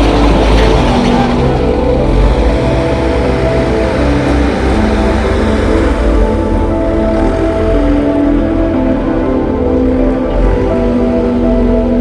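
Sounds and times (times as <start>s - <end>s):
music of long held notes: 0.0s - 12.0s
steady low rumble: 0.0s - 12.0s.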